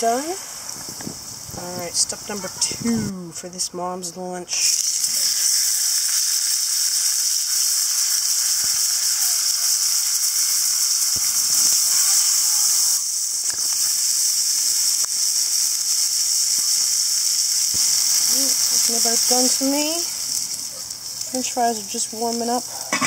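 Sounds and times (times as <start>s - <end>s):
burger patty sizzling in fat: 0.0s - 3.0s, 4.5s - 23.0s.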